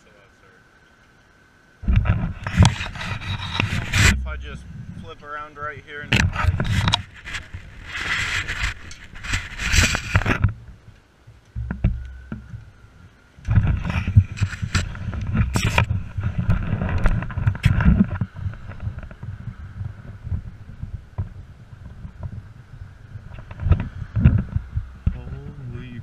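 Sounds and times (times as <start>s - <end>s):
clunks and rustling on camera: 1.8s - 5.2s, 6.0s - 12.8s, 13.4s - 22.5s, 23.2s - 25.3s.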